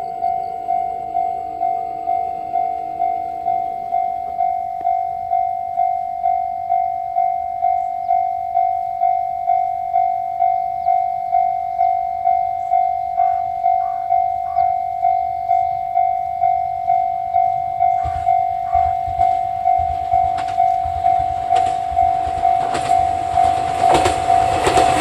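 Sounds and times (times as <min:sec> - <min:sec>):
level crossing bell ringing: 0:00.0 - 0:25.0.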